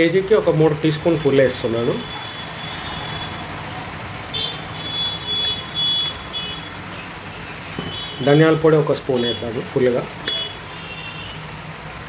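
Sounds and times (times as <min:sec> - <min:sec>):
chicken sizzling in oil: 0:00.8 - 0:12.0.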